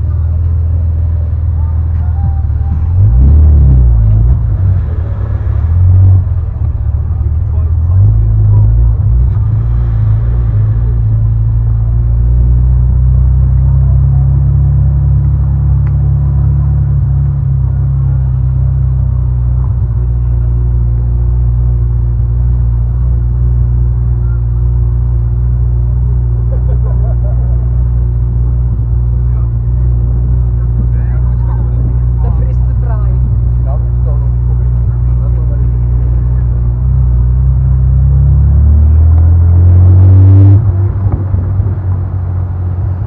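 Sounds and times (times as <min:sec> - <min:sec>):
car engine low drone: 0:00.0 - 0:43.0.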